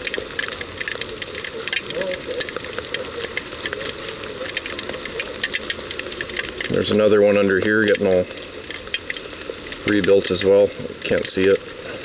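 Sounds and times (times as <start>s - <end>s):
heavy rain: 0.0s - 12.0s
raindrops ticking close by: 0.0s - 12.0s.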